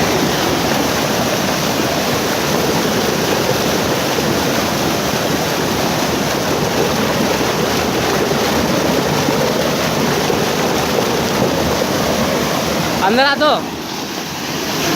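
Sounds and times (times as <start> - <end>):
water rushing: 0.0 - 14.9.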